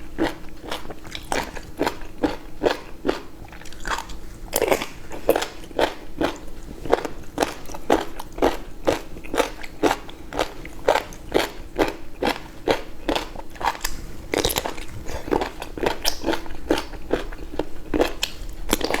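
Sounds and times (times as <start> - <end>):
faint steady hum: 0.0 - 19.0
person chewing with wet bites: 0.0 - 19.0.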